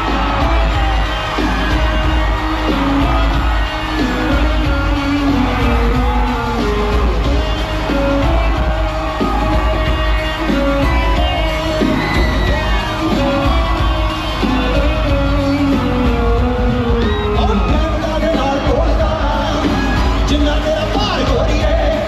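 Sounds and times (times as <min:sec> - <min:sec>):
crowd yelling: 0:00.0 - 0:22.0
pop concert music over speakers: 0:00.0 - 0:22.0.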